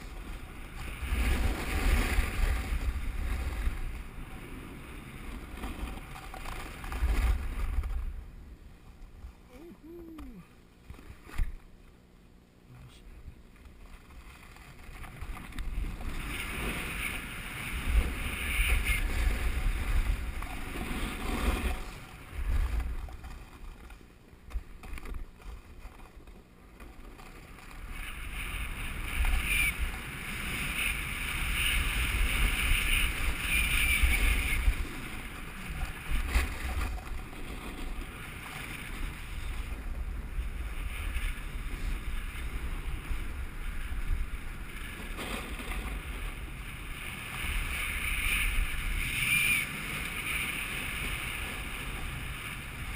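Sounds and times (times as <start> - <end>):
snowboard scraping over snow: 0.0 - 9.8, 13.3 - 52.9
wind rumbling on microphone: 0.0 - 11.6, 12.8 - 52.9.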